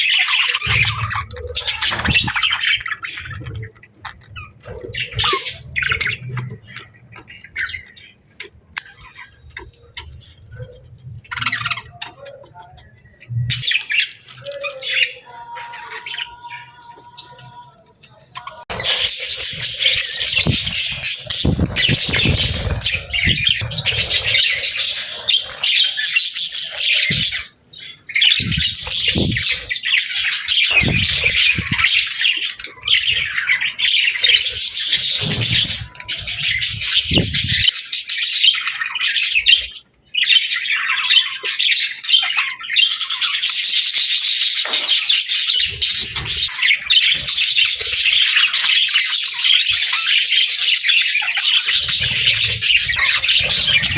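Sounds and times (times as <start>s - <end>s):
birds chirping and squawking: 0.0s - 53.9s.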